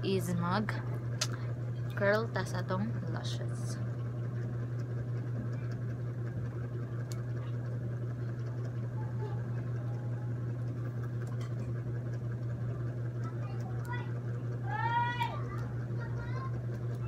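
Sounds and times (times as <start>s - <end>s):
faint whirring: 0.0s - 17.0s
low mechanical hum: 0.0s - 17.0s.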